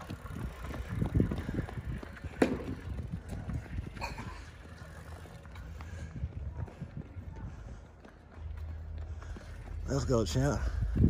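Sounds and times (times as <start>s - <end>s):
child running footsteps on concrete: 0.0s - 11.0s.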